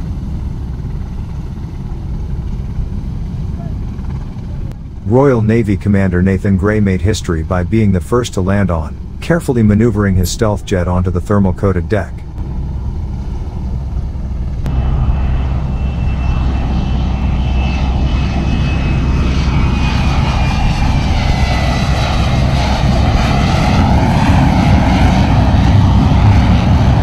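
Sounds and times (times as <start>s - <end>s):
high engine whine: 0.0s - 27.0s
jet engine running loud: 0.0s - 27.0s.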